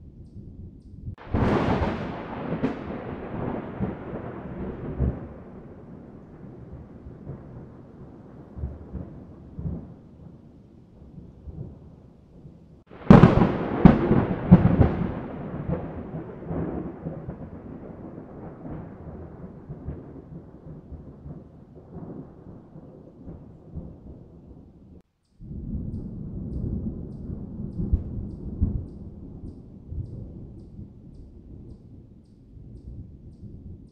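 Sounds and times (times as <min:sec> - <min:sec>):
thunder rumble and crack: 0:00.0 - 0:33.9.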